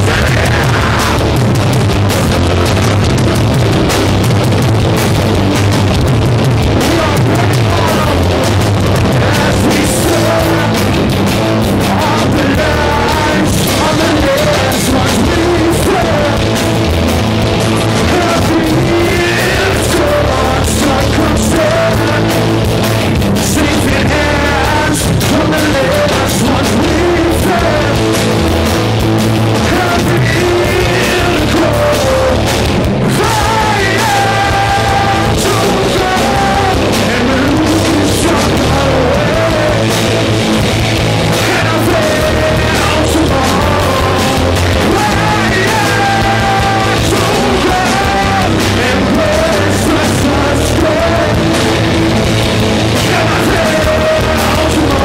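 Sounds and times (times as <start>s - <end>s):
person singing: 0.0s - 1.7s, 6.3s - 17.0s, 17.6s - 28.7s, 29.6s - 40.6s, 41.2s - 55.0s
live rock band playing: 0.0s - 55.0s.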